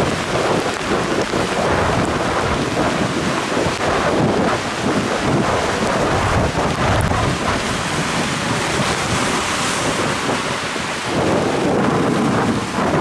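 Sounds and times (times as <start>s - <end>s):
strong wind buffeting microphone: 0.0s - 13.0s
waves splashing against rocks: 0.0s - 13.0s.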